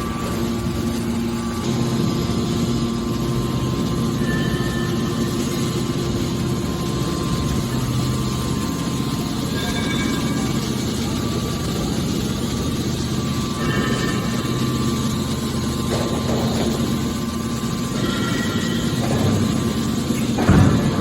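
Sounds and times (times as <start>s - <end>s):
baler machine humming: 0.0s - 21.0s.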